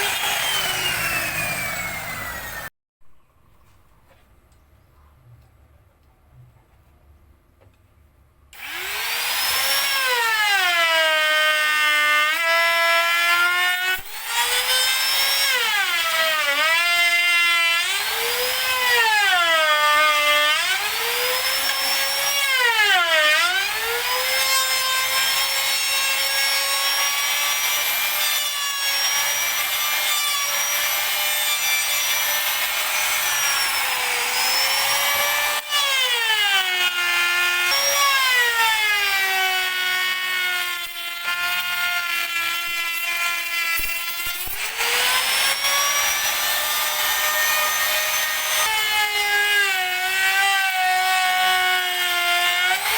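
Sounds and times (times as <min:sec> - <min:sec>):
power tool cutting wood: 0:00.0 - 0:02.7, 0:08.6 - 0:52.9.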